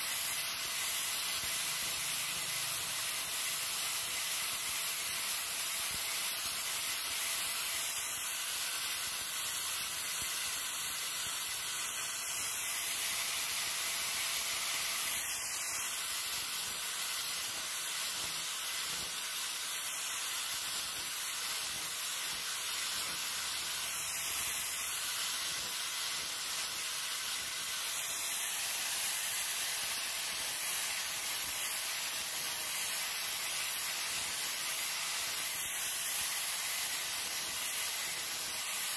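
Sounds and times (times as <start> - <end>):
angle grinder sanding wood: 0.0 - 38.9.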